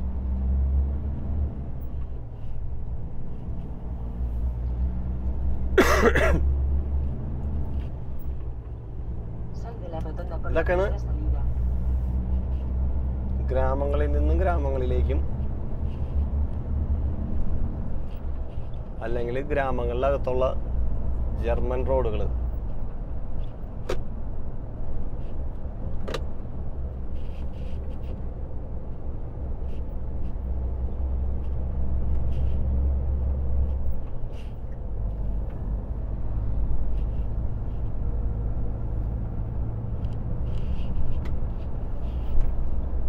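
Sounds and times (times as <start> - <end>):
truck diesel engine droning: 0.0 - 23.2, 26.4 - 43.0
road noise: 0.0 - 43.0.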